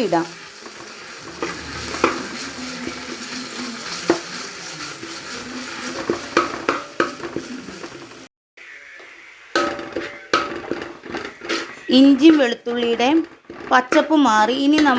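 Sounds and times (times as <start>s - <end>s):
food sizzling in oil: 0.0s - 14.9s
spoon scraping a pan: 0.0s - 14.9s.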